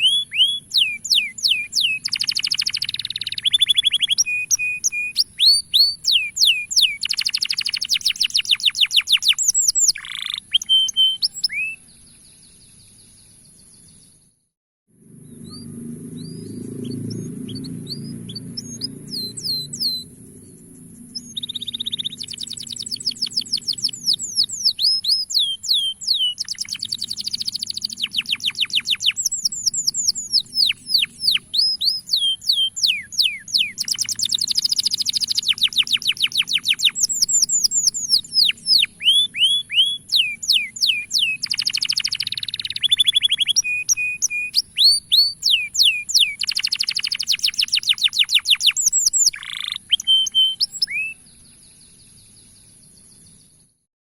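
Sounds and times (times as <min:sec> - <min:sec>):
canary singing trills: 0:00.0 - 0:14.1, 0:15.1 - 0:53.6.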